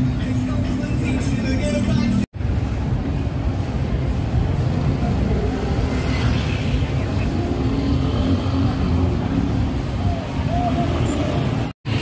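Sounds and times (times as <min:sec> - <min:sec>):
car engines and tyre rumble: 0:00.0 - 0:12.0.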